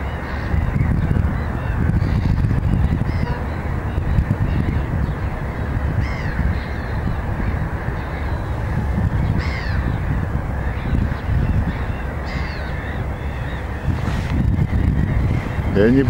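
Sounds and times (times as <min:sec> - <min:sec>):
gulls calling: 0:00.0 - 0:16.0
wind noise on microphone: 0:00.0 - 0:16.0.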